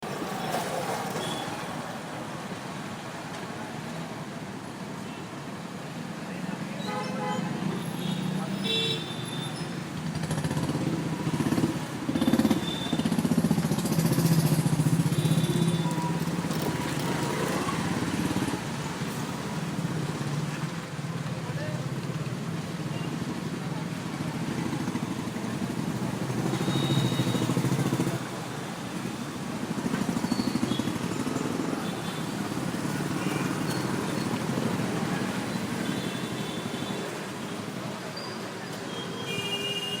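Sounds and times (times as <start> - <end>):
street traffic: 0.0 - 40.0.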